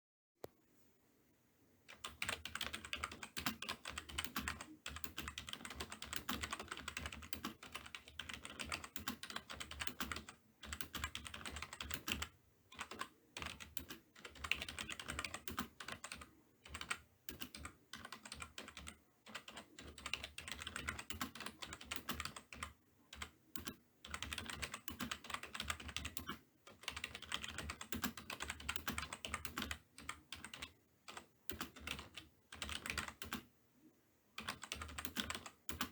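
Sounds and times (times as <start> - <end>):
fast typing on keyboard: 1.9 - 33.5, 34.4 - 35.9.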